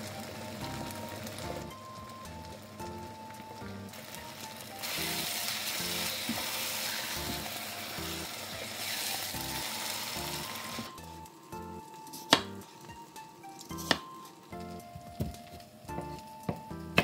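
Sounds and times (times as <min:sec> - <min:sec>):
mince sizzling in a frying pan: 0:00.0 - 0:15.6.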